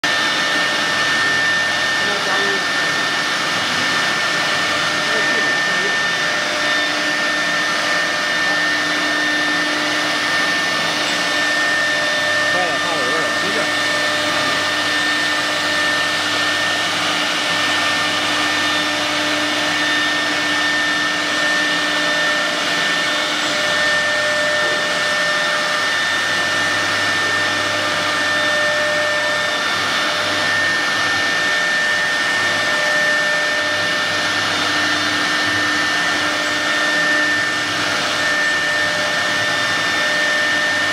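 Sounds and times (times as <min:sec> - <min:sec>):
electric spindle whining: 0:00.0 - 0:40.9.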